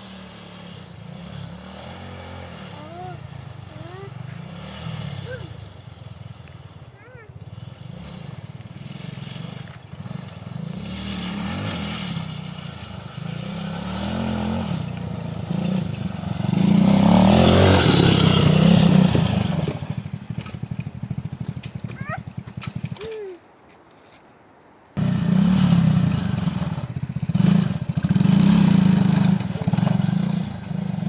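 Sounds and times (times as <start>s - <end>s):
quad engine revving: 0.0s - 23.2s, 25.0s - 31.0s.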